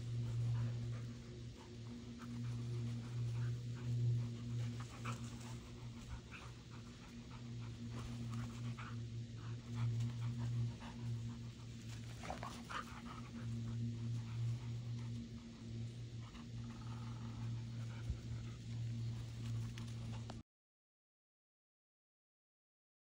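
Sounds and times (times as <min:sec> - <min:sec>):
dogs panting hard: 0:00.0 - 0:20.4
steady low hum: 0:00.0 - 0:20.4.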